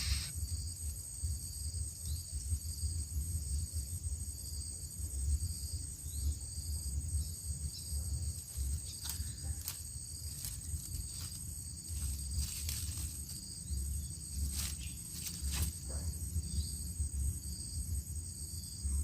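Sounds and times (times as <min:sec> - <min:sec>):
insect trill pulsing: 0:00.0 - 0:19.0.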